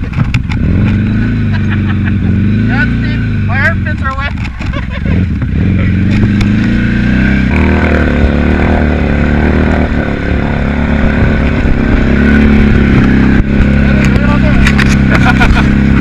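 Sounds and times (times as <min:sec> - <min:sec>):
vehicle engine running under load: 0:00.0 - 0:16.0.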